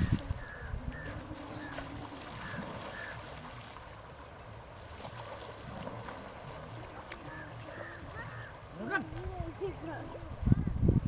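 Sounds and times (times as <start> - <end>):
river water splashing and trickling: 0.0 - 11.0.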